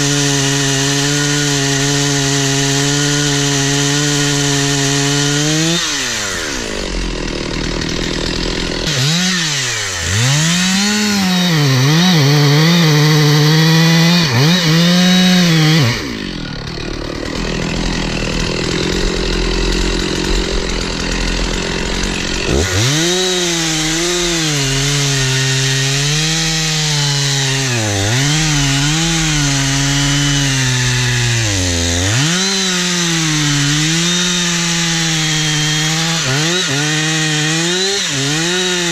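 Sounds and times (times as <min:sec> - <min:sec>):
chainsaw cutting into tree trunk: 0:00.0 - 0:38.9.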